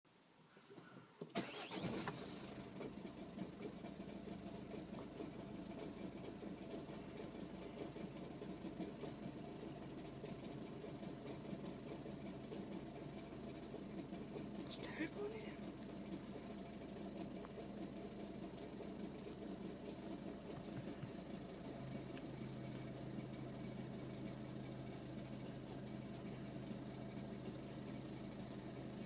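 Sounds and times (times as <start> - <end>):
diesel engine starting and running: 0.7 - 29.0.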